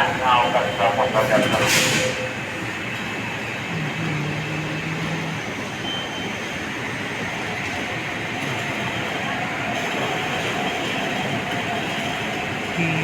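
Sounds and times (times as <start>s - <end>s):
train rail noise: 0.0s - 13.0s.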